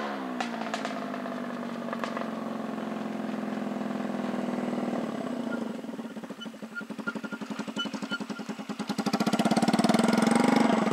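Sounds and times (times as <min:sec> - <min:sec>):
scooter engine running: 0:00.0 - 0:10.9.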